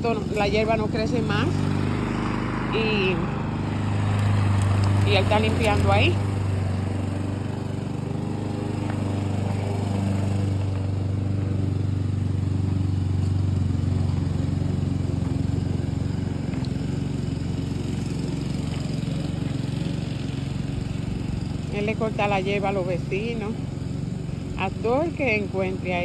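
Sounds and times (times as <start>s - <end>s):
lawn mower engine running: 0.0s - 26.0s.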